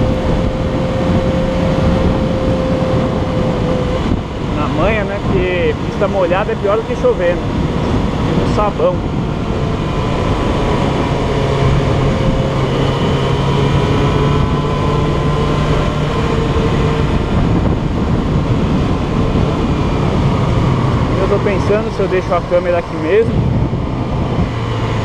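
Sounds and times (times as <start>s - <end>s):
motorcycle engine hum: 0.0s - 25.0s
wind rush: 0.0s - 25.0s.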